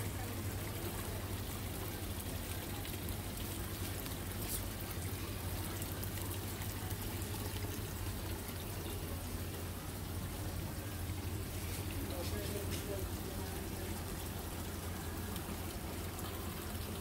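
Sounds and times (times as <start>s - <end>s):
fountain water splashing: 0.0s - 17.0s
low steady hum: 0.0s - 17.0s.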